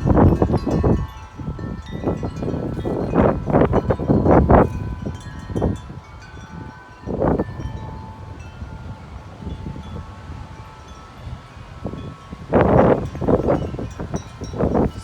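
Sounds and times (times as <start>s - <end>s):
metal wind chimes ringing: 0.0s - 15.0s
wind buffeting microphone: 0.0s - 15.0s.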